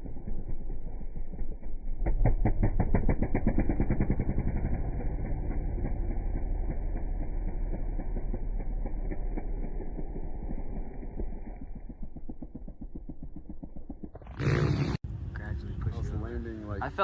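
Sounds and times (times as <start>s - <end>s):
dirt bike engine running: 0.0s - 15.2s.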